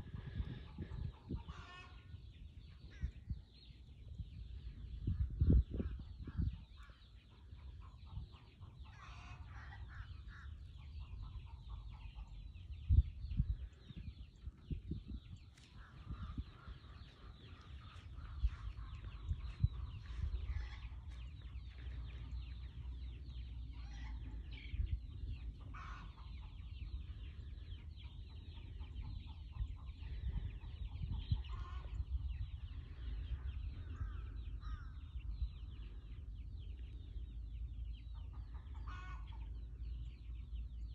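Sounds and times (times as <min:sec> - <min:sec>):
chickens clucking and squawking: 0:00.0 - 0:40.9
wind rumble on microphone: 0:00.0 - 0:40.9.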